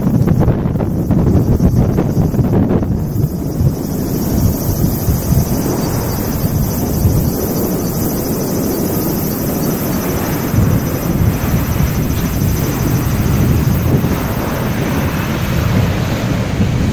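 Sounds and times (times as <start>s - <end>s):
turboprop airliner engines: 0.0s - 16.9s.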